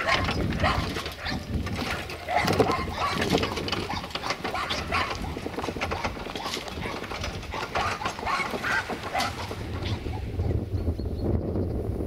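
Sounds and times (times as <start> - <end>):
hooves clip-clopping: 0.0 - 10.9
wooden cart rattling: 0.0 - 11.1.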